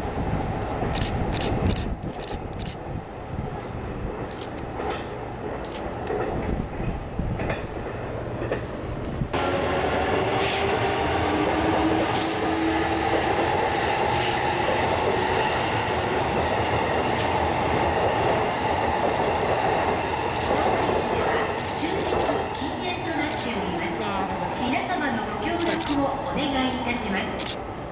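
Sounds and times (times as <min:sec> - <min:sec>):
train wheel and track noise: 0:00.0 - 0:27.9.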